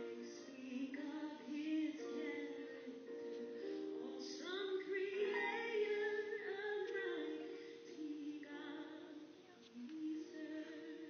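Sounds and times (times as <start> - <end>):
woman singing gospel song: 0.0 - 11.0.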